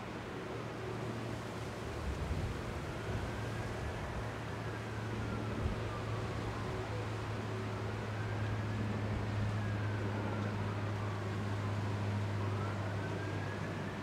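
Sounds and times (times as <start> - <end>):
distant siren wailing: 0.1 - 14.0.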